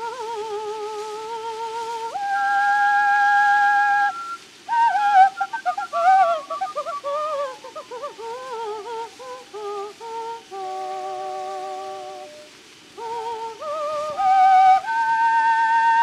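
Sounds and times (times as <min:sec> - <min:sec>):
operatic soprano singing: 0:00.0 - 0:16.0.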